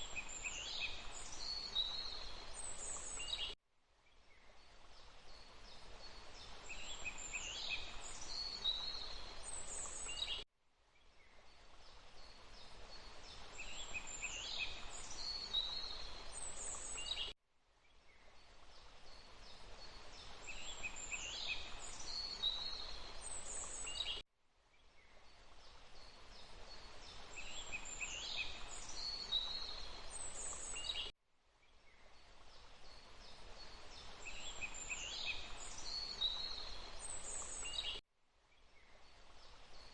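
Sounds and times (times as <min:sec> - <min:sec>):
steady water noise: 0:00.0 - 0:03.5, 0:04.4 - 0:10.3, 0:11.4 - 0:17.2, 0:18.4 - 0:24.2, 0:25.2 - 0:31.1, 0:32.1 - 0:37.9
songbird singing: 0:00.0 - 0:39.9.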